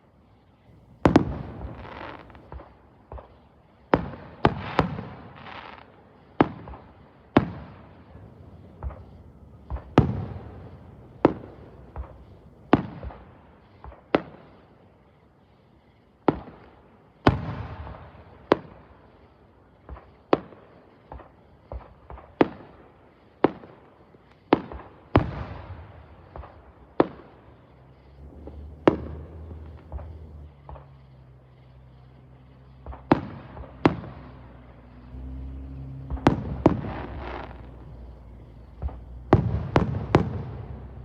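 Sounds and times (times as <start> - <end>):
fireworks bangs: 0.6 - 14.7, 16.3 - 41.0.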